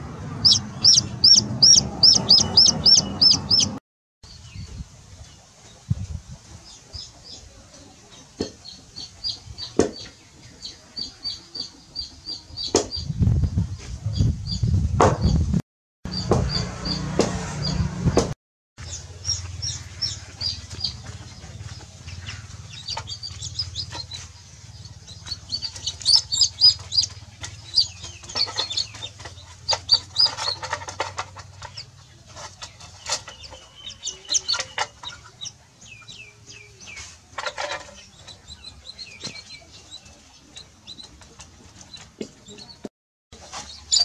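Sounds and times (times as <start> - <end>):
baby chicks peeping: 0.2 - 15.5, 16.1 - 18.2, 18.8 - 44.0.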